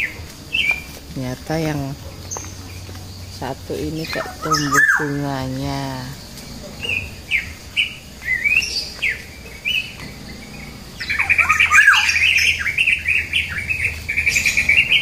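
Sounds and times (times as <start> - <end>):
bird chirps: 0.0 - 15.0
birds chattering: 0.0 - 15.0
downward-sweeping bird calls: 0.0 - 15.0.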